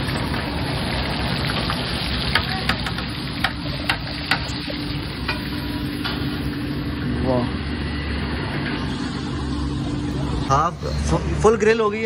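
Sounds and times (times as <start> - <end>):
fish sizzling with pops: 0.0 - 9.8.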